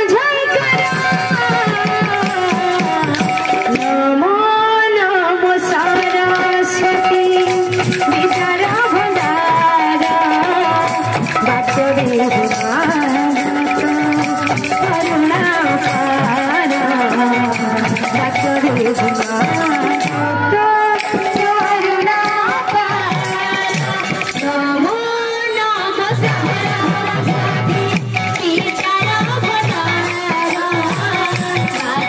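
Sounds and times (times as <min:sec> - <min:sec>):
drum beat: 0:00.4 - 0:03.9, 0:05.7 - 0:20.3, 0:21.0 - 0:24.7, 0:26.0 - 0:32.0
hand cymbals: 0:00.5 - 0:04.2, 0:05.7 - 0:24.9, 0:25.9 - 0:32.0.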